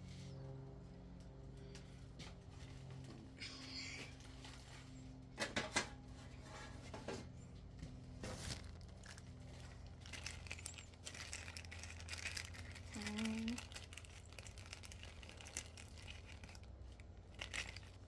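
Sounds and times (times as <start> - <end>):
low electrical hum: 0.0 - 18.0
rustling and crinkling: 2.0 - 18.0.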